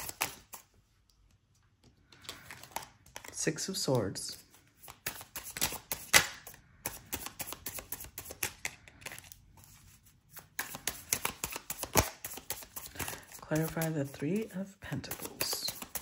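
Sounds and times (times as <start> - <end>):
cards being shuffled: 0.0 - 1.2, 1.8 - 3.6, 4.3 - 16.0.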